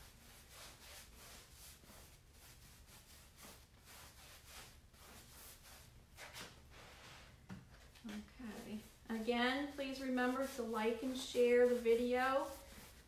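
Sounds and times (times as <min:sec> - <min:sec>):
paintbrush scratching on fabric: 0:00.0 - 0:07.2, 0:08.5 - 0:13.0.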